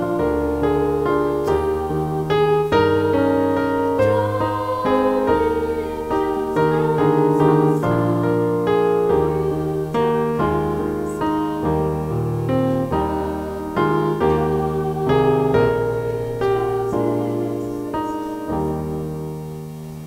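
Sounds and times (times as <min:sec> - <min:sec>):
electric piano playing hymn chords: 0:00.0 - 0:20.0.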